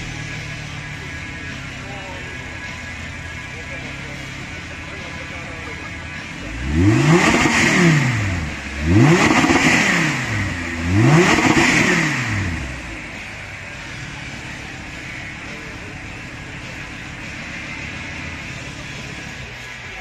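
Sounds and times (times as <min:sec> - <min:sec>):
sports car engine revving: 0:00.0 - 0:19.8.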